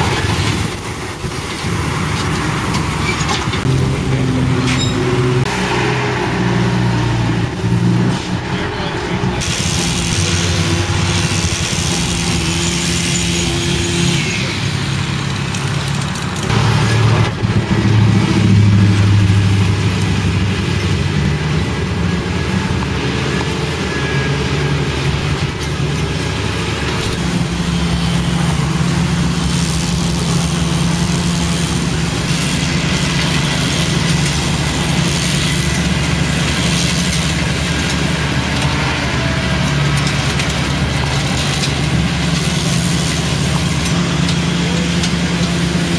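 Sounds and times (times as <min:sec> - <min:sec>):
rotary mower: 0:00.0 - 0:45.9
tractor diesel engine running: 0:00.0 - 0:45.9.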